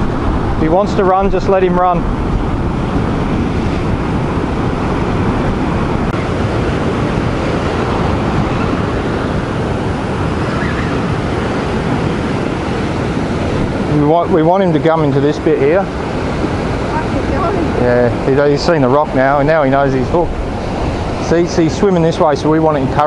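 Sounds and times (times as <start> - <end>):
surf breaking on rocks: 0.0 - 23.0.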